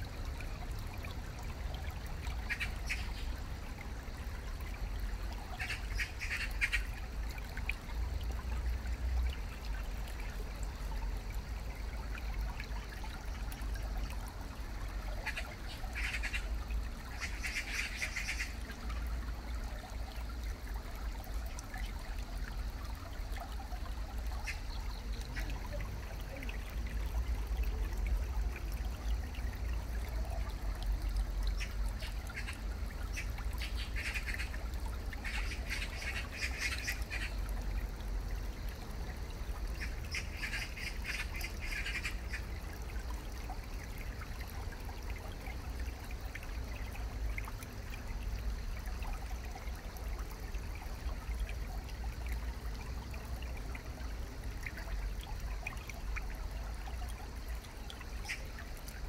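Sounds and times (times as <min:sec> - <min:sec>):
stream trickling over pebbles: 0:00.0 - 0:59.0.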